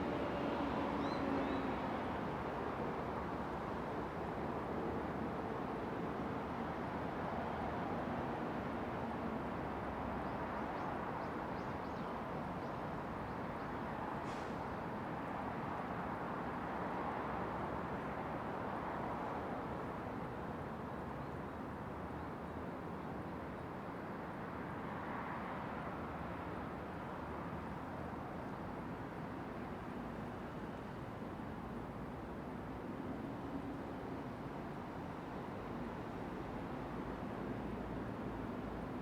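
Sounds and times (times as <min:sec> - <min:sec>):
distant city traffic: 0:00.0 - 0:39.0.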